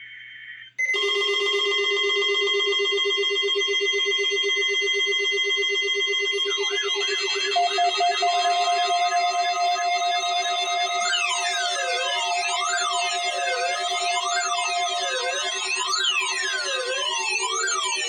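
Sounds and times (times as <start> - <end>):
pulsing electronic alarm beeps: 0.0 - 18.0
warbling alarm tone: 0.4 - 18.0.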